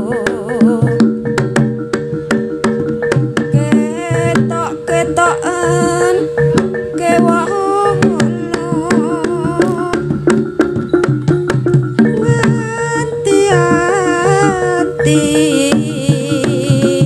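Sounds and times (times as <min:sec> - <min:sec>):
fast hand drum rhythm: 0:00.0 - 0:17.0
wavering bending melody: 0:00.0 - 0:17.0.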